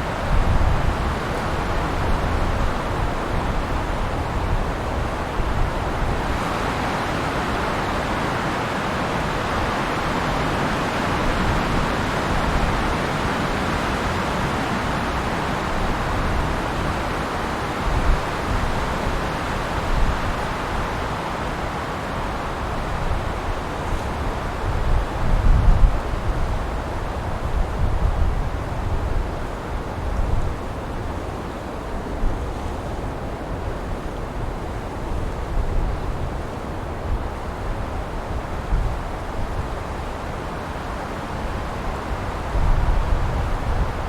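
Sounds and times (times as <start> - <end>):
wind through pine trees: 0.0 - 44.0.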